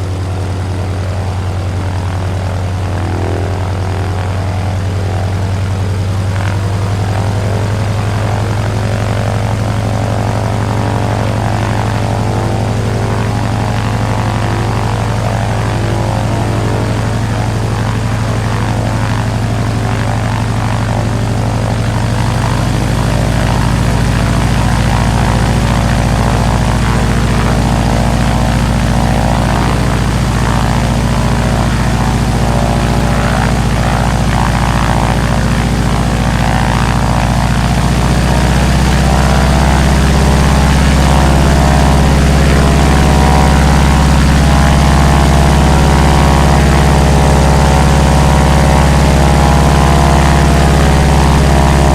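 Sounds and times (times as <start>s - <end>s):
propeller airplane engine droning: 0.0s - 51.9s.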